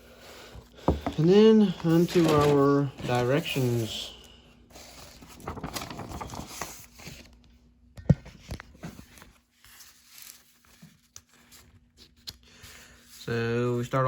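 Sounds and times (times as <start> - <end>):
paper rustling and crinkling: 0.9 - 7.6, 8.3 - 13.8.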